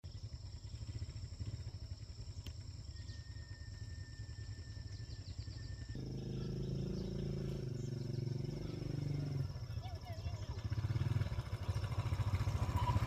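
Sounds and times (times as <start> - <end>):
small engine idling: 0.0 - 13.0
birds chirping: 0.1 - 13.0.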